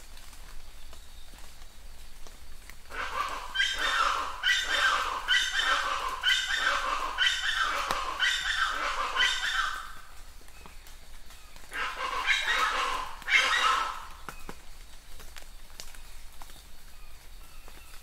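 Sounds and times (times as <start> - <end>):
faint rain hiss: 0.0 - 18.0.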